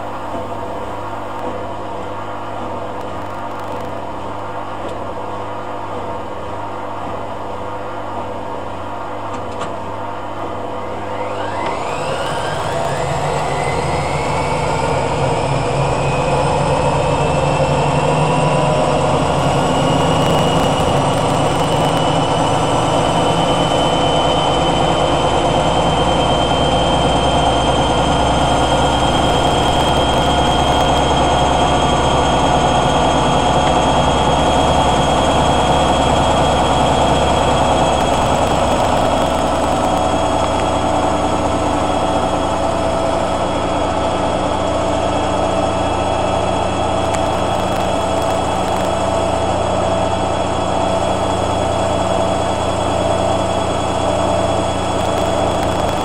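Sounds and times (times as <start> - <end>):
washing machine drum spinning whine: 0.0 - 56.0
low hum: 10.8 - 56.0.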